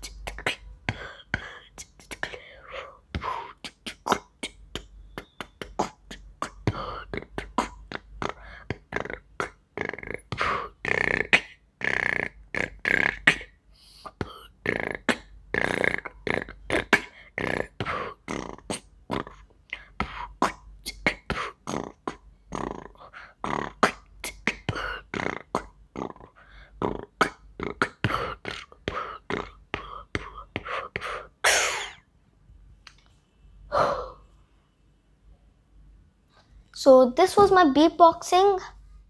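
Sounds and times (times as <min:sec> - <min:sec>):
person beatboxing: 0:00.0 - 0:32.0.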